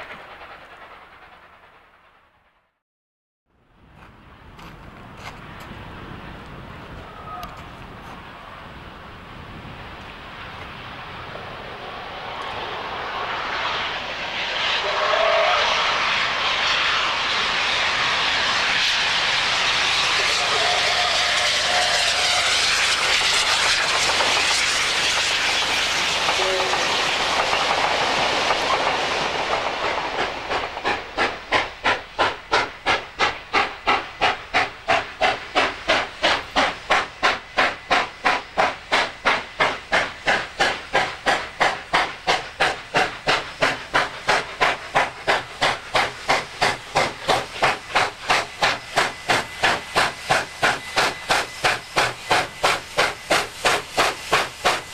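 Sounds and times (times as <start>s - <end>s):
hissing steam: 0.0s - 2.5s, 5.5s - 54.9s
steam locomotive exhaust chuffs: 0.0s - 2.8s, 9.7s - 54.9s.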